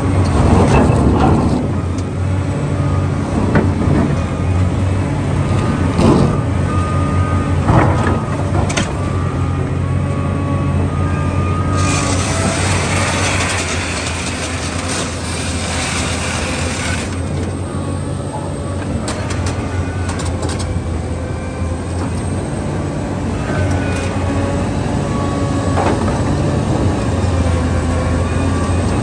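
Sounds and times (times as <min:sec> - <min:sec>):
heavy diesel engine humming: 0:00.0 - 0:29.0.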